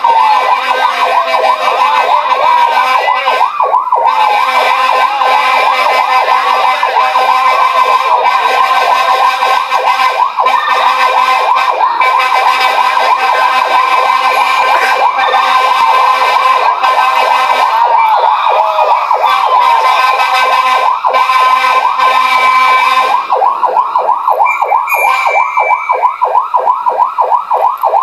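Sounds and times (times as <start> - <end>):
fire engine sirens yelping: 0.0 - 28.0.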